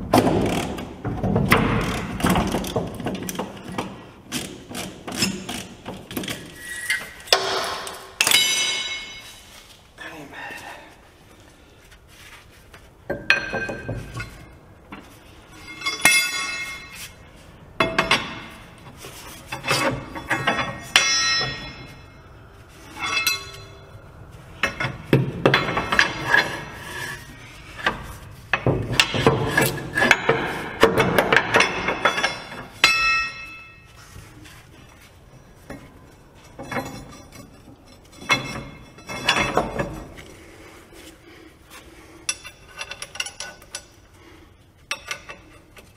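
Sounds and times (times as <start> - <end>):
metal clanks: 0.1 - 9.4, 13.1 - 17.2, 17.8 - 34.0, 35.6 - 40.2, 42.2 - 44.0, 44.8 - 45.9.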